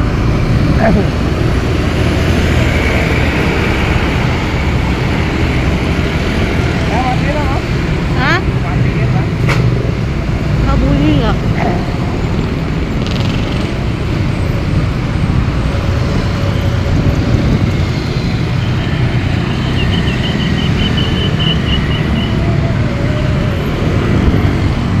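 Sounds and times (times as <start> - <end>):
buses rumbling: 0.0 - 25.0.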